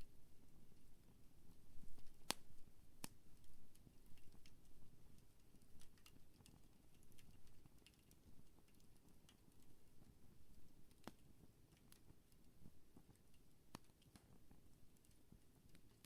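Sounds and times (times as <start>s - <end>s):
campfire crackling and popping: 0.7s - 16.0s.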